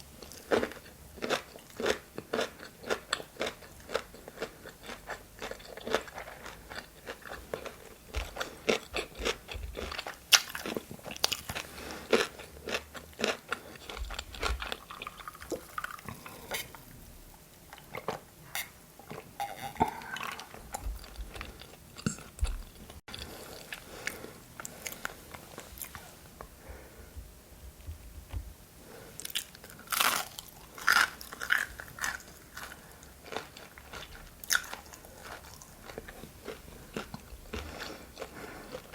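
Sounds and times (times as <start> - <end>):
crunchy food being chewed: 0.0 - 26.6, 28.9 - 38.9.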